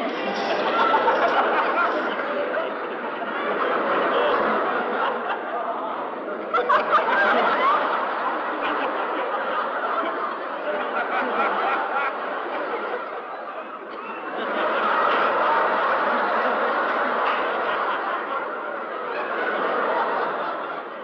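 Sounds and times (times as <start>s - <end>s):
crowd laughing: 0.0s - 21.0s.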